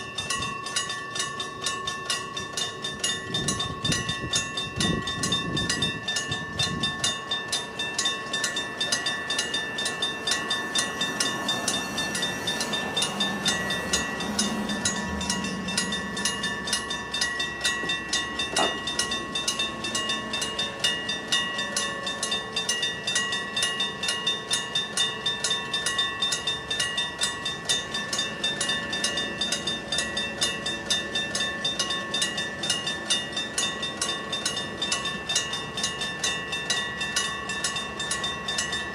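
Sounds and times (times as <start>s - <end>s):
diesel train rumble: 0.0s - 38.9s
level crossing bells ringing: 0.0s - 38.9s.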